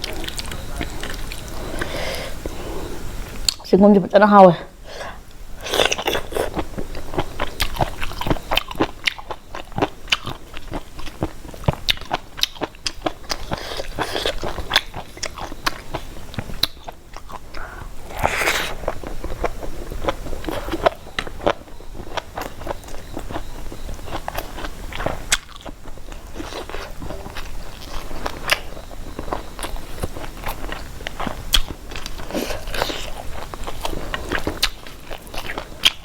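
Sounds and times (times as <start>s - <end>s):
person chewing crunchy food: 0.0s - 2.6s, 5.0s - 36.0s.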